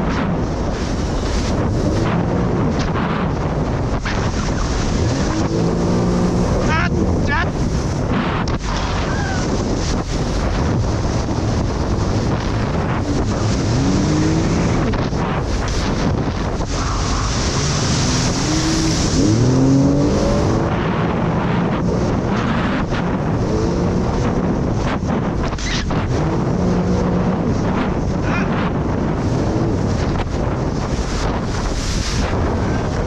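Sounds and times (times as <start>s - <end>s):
jet ski engine: 0.0s - 33.0s
water rushing: 0.0s - 33.0s
wind buffeting microphone: 0.0s - 33.0s.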